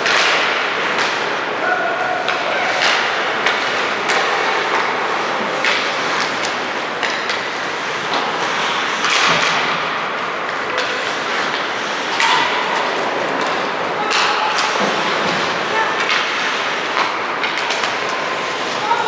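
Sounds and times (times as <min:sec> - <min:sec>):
sticks and skates knocking: 0:00.0 - 0:01.5, 0:02.2 - 0:19.0
rink and crowd noise: 0:00.0 - 0:19.0
skates scraping ice: 0:00.0 - 0:19.0.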